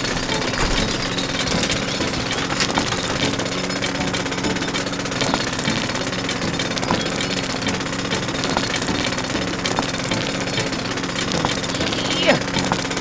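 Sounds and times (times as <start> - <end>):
sharp clicks: 0.0 - 13.0
small machine humming and rattling: 0.0 - 13.0.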